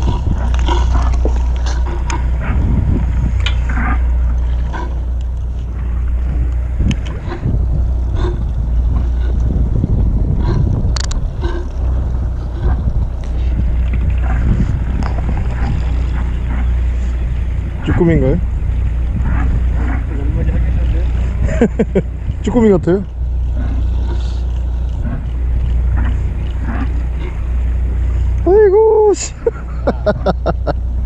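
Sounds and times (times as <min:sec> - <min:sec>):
wind and boat rumble: 0:00.0 - 0:31.0.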